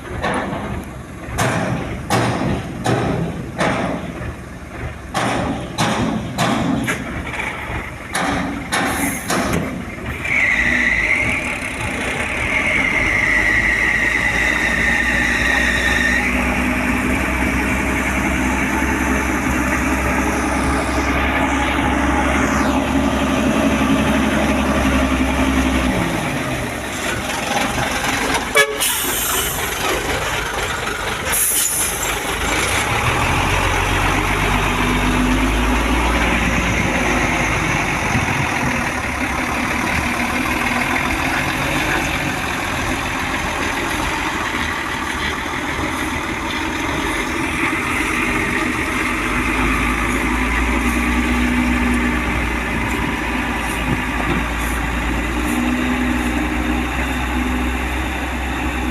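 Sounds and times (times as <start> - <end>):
heavy truck engine running: 0.0 - 58.9.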